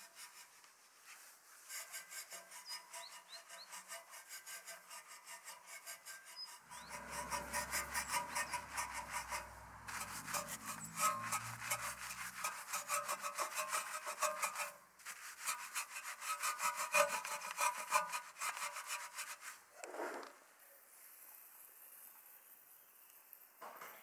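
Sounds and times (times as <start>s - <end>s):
brush scrubbing wet wheel: 0.0s - 19.6s.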